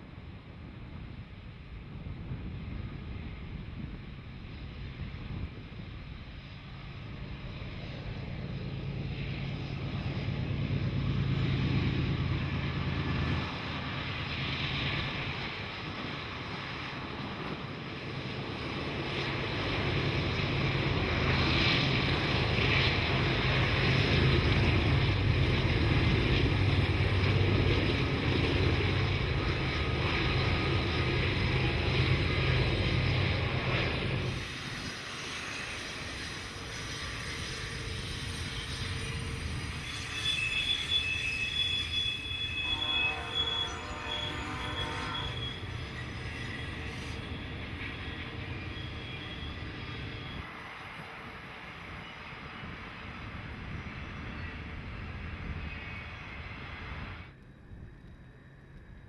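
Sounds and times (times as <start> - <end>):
locomotive engine drone: 0.0 - 59.0
train noisy hiss: 6.4 - 57.3.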